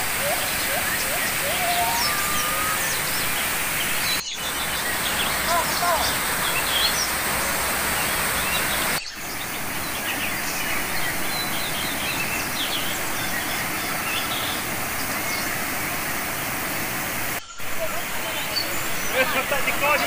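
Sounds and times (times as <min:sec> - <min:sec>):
small birds chirping: 0:00.0 - 0:20.0
waterfall rushing over rocks: 0:00.0 - 0:20.0.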